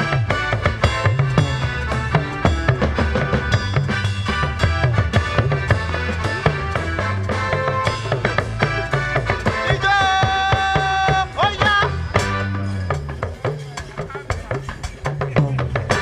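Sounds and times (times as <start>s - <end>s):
band playing: 0.0s - 16.0s
drums: 0.0s - 16.0s.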